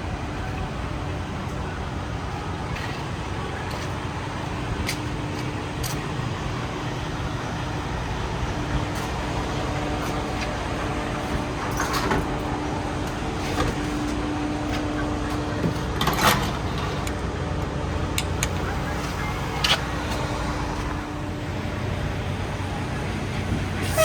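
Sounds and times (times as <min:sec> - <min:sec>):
vehicle engine and traffic: 0:00.0 - 0:24.0.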